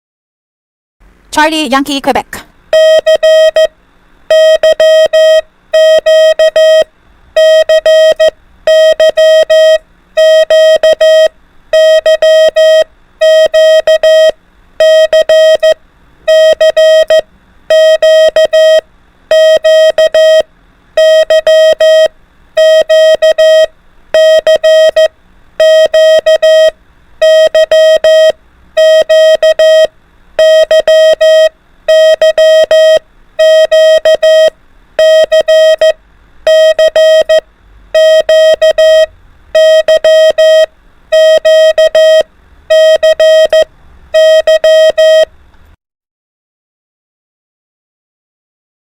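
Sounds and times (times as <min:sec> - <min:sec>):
morse code beeps: 0:02.7 - 0:03.7, 0:04.3 - 0:37.4, 0:38.0 - 0:45.3.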